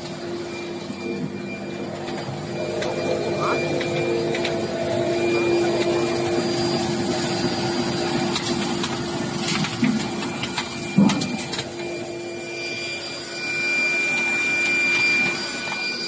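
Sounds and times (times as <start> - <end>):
machine hum with held tone: 0.0 - 16.0.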